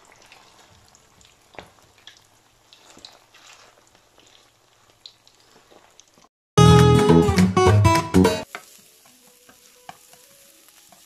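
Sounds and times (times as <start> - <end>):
frying in hot oil: 0.0 - 6.3, 8.4 - 11.0.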